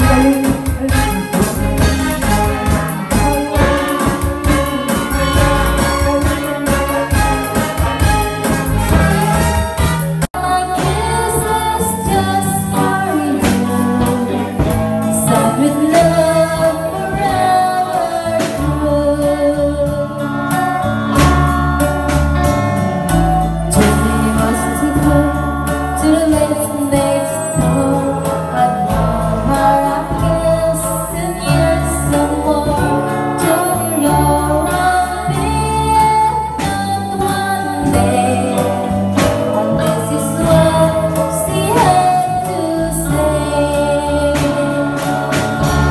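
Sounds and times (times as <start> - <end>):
woman singing into a microphone: 0.0 - 7.1, 10.4 - 22.7, 23.4 - 45.9
bass guitar: 0.0 - 45.9
drums: 0.0 - 45.9
electric guitar: 0.0 - 45.9.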